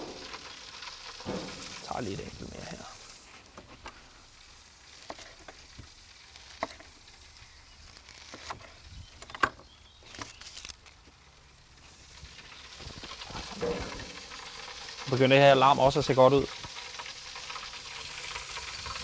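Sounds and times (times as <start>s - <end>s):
food sizzling on grill: 0.0s - 8.9s, 11.3s - 19.0s.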